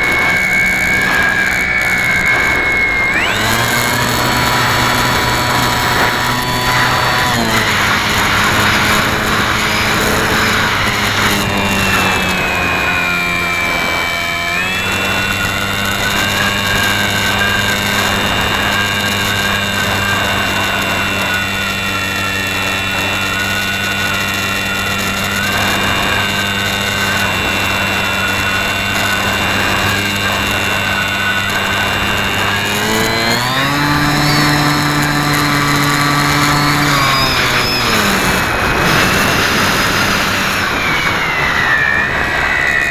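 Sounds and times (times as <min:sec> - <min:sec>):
model airplane motor whine: 0:00.0 - 0:42.9
wind rush: 0:00.0 - 0:42.9.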